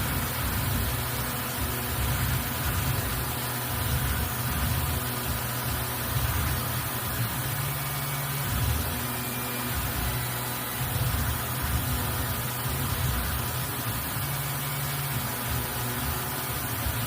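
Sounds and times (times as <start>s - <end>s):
milling machine humming: 0.0s - 17.0s.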